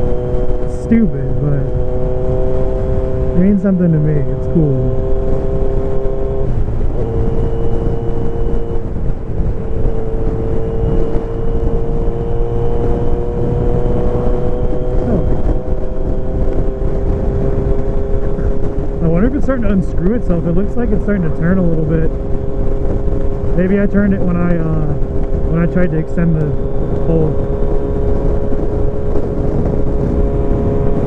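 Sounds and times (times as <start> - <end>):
motorcycle engine cruising: 0.0 - 31.0
wind rush on microphone: 0.0 - 31.0.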